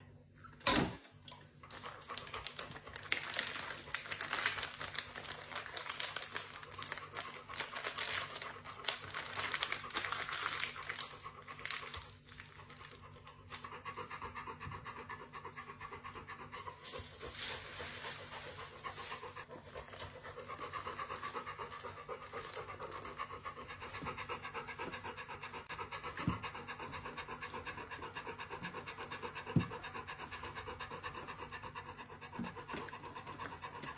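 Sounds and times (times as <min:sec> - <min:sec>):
dog panting: 0:01.6 - 0:33.9.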